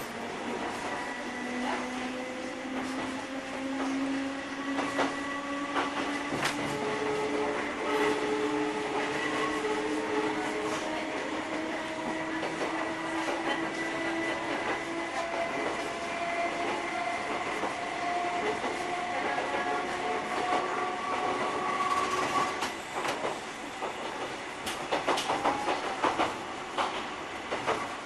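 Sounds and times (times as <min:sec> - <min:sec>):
railcar whine: 0:00.0 - 0:28.0.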